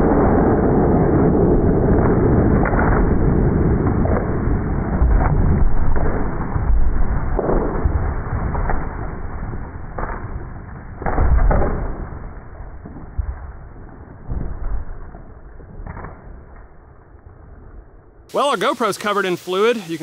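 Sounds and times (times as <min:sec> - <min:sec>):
slowed rifle shot rumble: 0:00.0 - 0:18.2.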